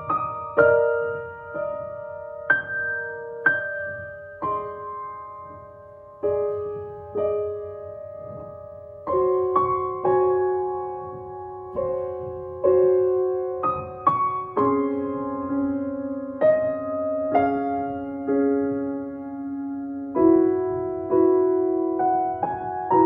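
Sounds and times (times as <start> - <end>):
grand piano chords: 0.0 - 23.0.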